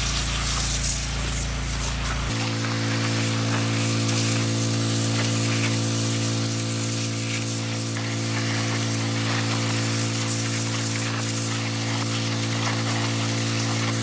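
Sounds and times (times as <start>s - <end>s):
engine drone: 0.0s - 14.0s
high-pressure water jet hissing: 0.0s - 14.0s.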